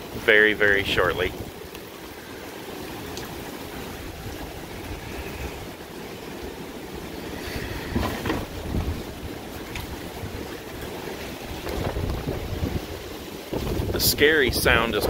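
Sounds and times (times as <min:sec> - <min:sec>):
strong wind gusting: 0:00.0 - 0:15.0
wind buffeting microphone: 0:00.0 - 0:15.0.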